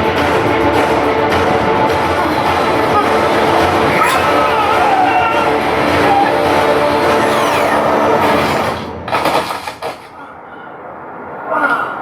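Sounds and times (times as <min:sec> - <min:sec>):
vehicle engines rushing: 0:00.0 - 0:12.0.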